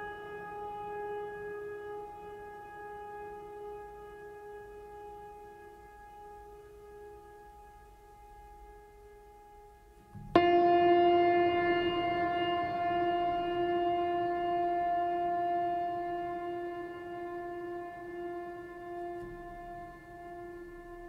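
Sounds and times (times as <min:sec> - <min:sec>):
slow ambient music held notes: 0:00.0 - 0:21.0.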